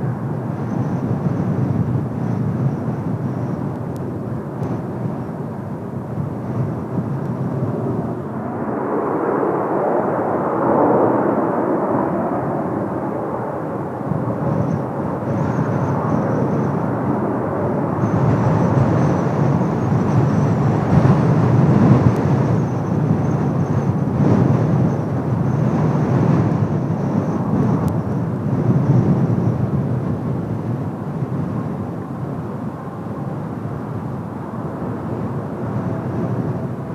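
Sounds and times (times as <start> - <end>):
gusting wind: 0.0 - 36.9
high jet engine whine: 0.0 - 36.9
jet engines rumbling: 0.0 - 36.9.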